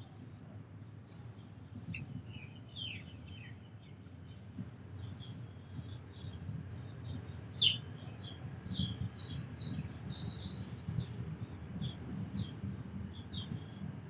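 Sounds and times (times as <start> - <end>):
sparrows chirping: 0.2 - 14.0.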